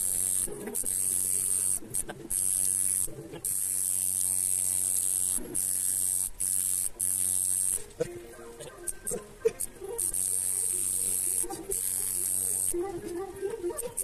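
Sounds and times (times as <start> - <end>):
tattoo machine buzzing: 0.0 - 14.0.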